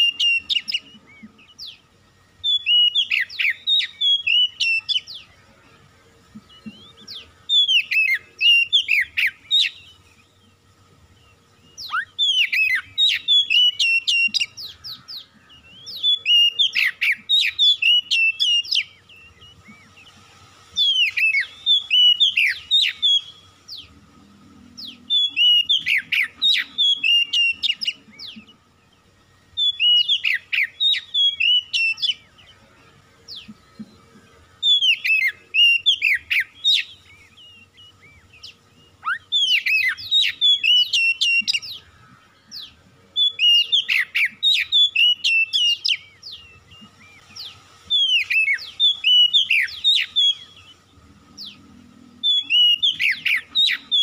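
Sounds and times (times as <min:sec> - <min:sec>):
bird singing whistled phrases: 0:00.0 - 0:01.8, 0:02.4 - 0:05.3, 0:06.5 - 0:10.3, 0:11.6 - 0:20.1, 0:20.8 - 0:24.0, 0:24.8 - 0:28.6, 0:29.5 - 0:32.4, 0:34.6 - 0:51.6, 0:52.2 - 0:54.0.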